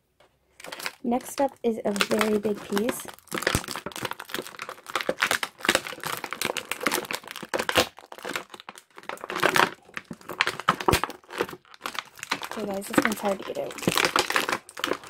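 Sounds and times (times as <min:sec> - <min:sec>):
plastic packaging crackling: 0:00.5 - 0:15.0.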